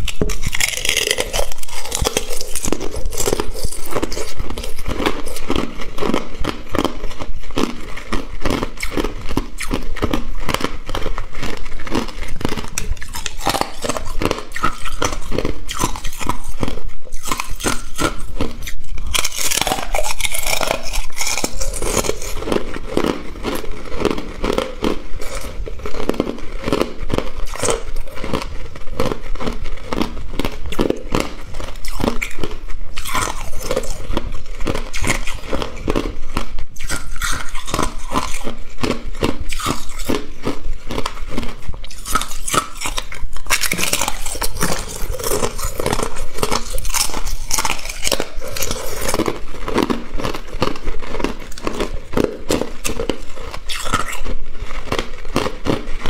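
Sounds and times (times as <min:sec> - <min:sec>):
person chewing ice: 0:00.0 - 0:56.0.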